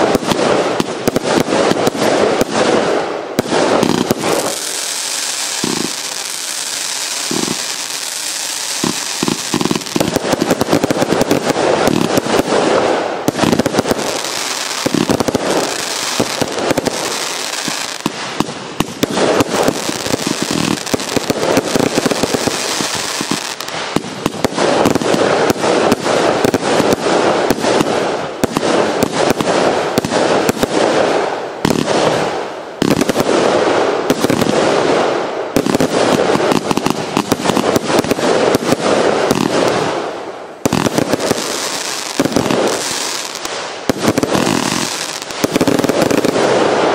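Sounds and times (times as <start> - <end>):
firework bangs and crackling: 0.0 - 46.9
firework hiss: 0.0 - 46.9.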